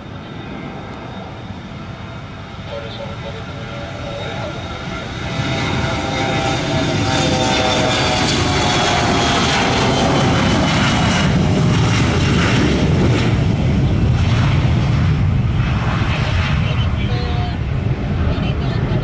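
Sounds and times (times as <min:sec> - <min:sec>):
airliner engines running: 0:00.0 - 0:19.0.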